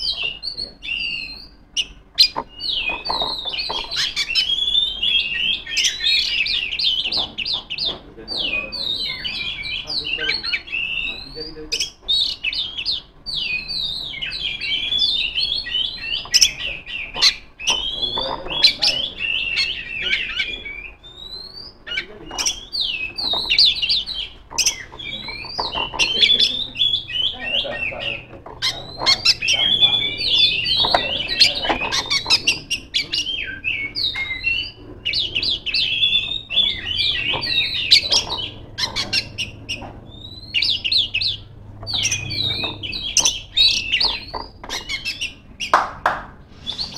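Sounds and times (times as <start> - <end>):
magpie-robin singing: 0.0 - 46.9.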